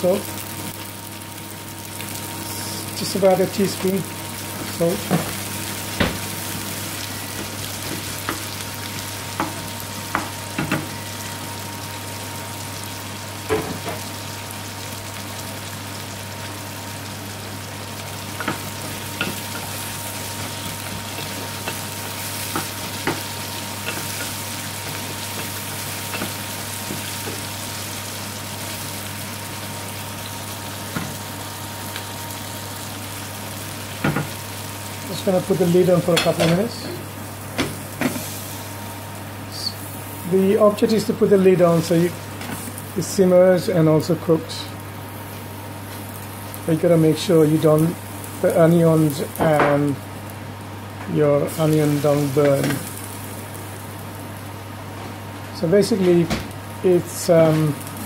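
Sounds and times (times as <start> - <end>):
onions sizzling in a pan: 0.0 - 58.0.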